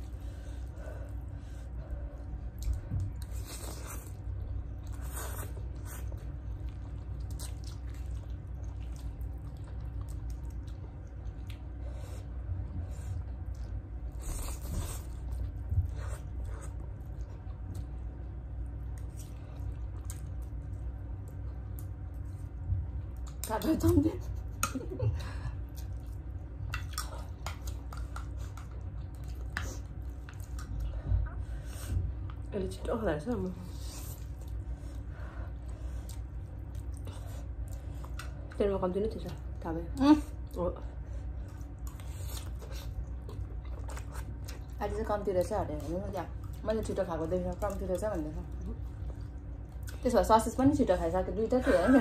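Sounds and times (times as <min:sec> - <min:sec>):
people chewing: 0:00.0 - 0:32.5, 0:33.2 - 0:52.0.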